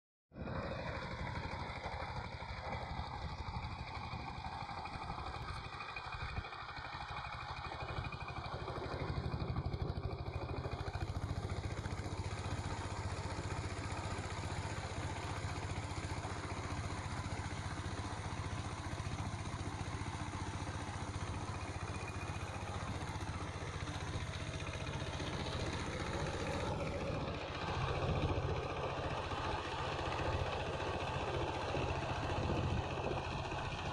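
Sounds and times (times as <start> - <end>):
diesel engine chugging: 0.4 - 33.9
rotary tiller working dry soil: 0.4 - 33.9.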